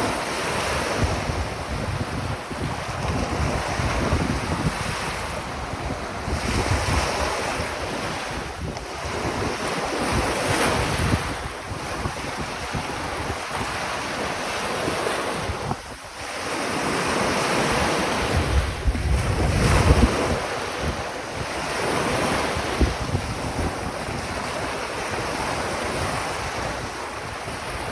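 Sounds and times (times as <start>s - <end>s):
waves washing up shore: 0.0s - 27.9s
wind buffeting microphone: 0.0s - 27.9s.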